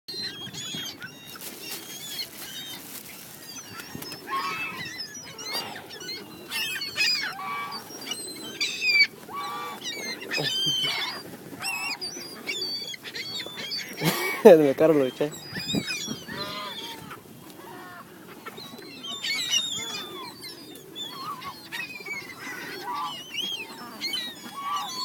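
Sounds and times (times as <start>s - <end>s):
birds calling: 0.1s - 25.0s.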